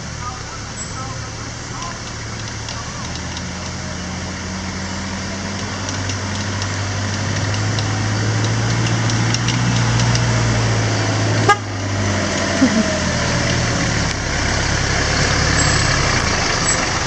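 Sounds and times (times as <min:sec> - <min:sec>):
off-road vehicle engine at low revs: 0:00.0 - 0:17.0.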